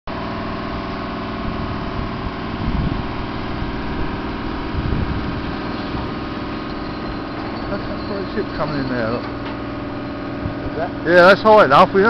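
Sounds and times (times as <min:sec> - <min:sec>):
engine humming: 0:00.1 - 0:12.0.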